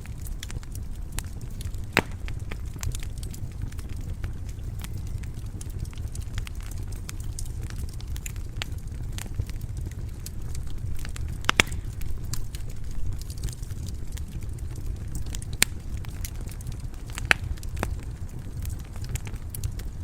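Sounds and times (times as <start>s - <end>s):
fire crackles and pops: 0.0s - 20.0s
fire flames rumbling: 0.0s - 20.0s.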